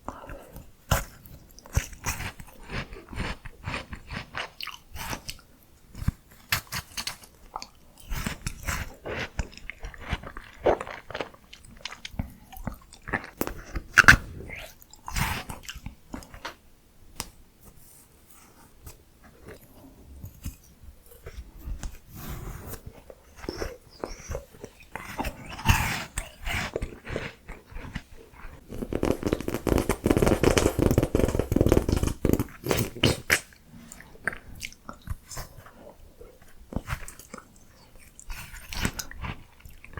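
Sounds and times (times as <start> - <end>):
chewing crunchy ice cream: 0.2 - 16.5, 23.0 - 39.9.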